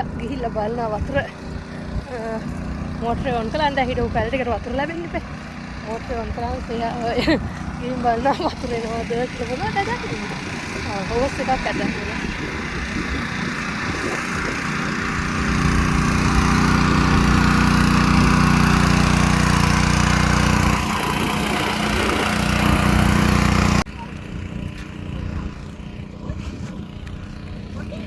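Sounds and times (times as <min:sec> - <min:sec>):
water pump motor humming: 0:00.0 - 0:28.0.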